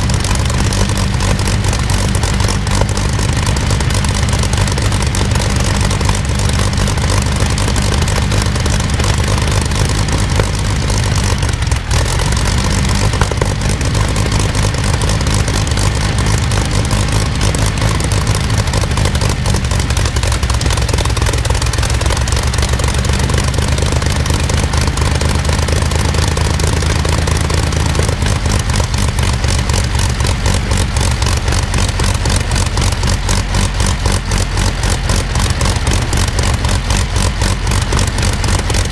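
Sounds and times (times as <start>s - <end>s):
aero engine running: 0.0s - 38.9s.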